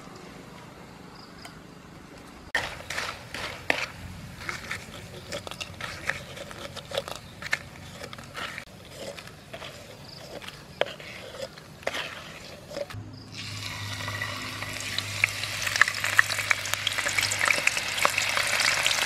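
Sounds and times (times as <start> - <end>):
spatula scraping in a wok: 2.6 - 19.0.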